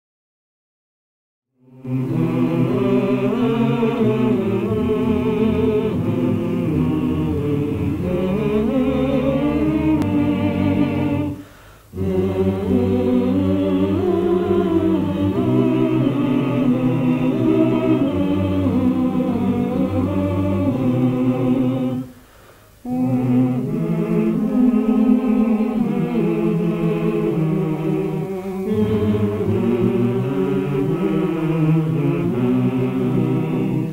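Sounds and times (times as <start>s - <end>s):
choir singing: 1.6s - 22.2s, 22.8s - 33.9s.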